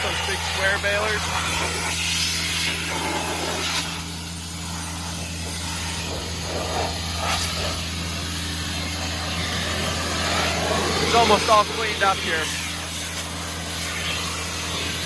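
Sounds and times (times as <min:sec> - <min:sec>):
compressed air hissing: 0:00.0 - 0:15.0
engine humming: 0:00.0 - 0:15.0.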